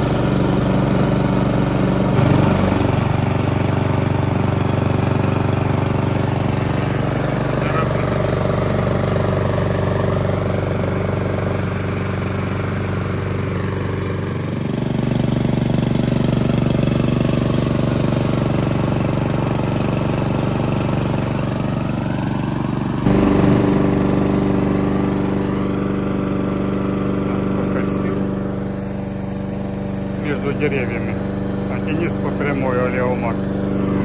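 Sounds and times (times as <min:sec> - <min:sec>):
petrol lawn mower engine: 0:00.0 - 0:34.0.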